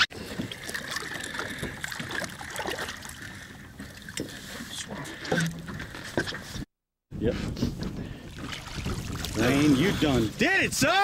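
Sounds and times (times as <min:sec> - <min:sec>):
water splashing and sloshing: 0:00.0 - 0:06.7, 0:07.8 - 0:10.4.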